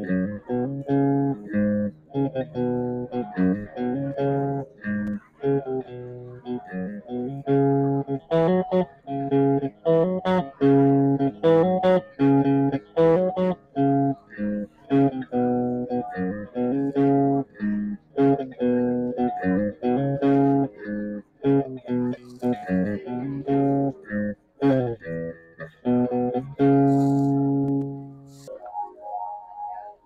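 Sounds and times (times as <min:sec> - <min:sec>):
electric guitar noodling: 0:00.0 - 0:30.0.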